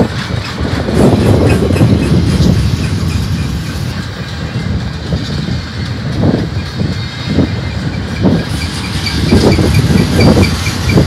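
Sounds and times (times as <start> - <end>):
train wheels rumbling on rails: 0.0 - 11.0
wheels clacking on rails: 0.0 - 11.0.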